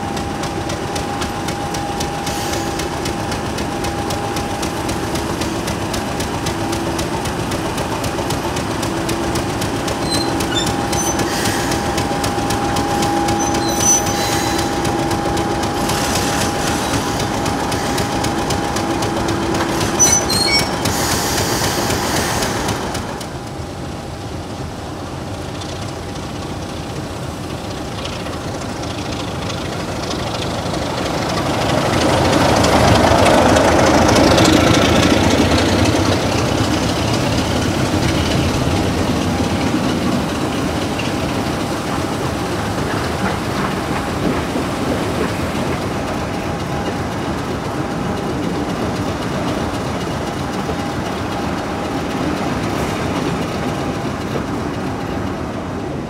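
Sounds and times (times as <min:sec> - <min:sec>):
diesel train engine: 0:00.0 - 0:56.0
train wheels on rails: 0:00.0 - 0:56.0.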